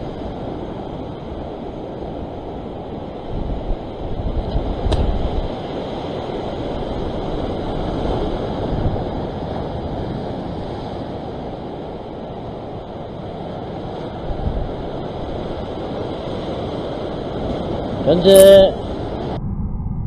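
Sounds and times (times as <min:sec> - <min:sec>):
sea waves washing on rocks: 0:00.0 - 0:18.7
wind buffeting microphone: 0:00.0 - 0:20.0.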